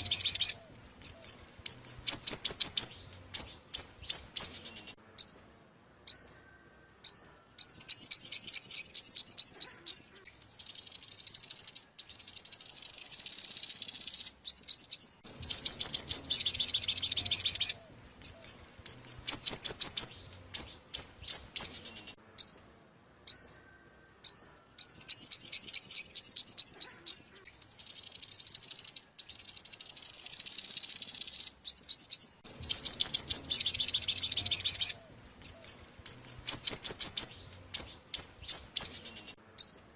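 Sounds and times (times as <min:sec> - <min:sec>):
sunbird trilling: 0:00.0 - 0:39.9.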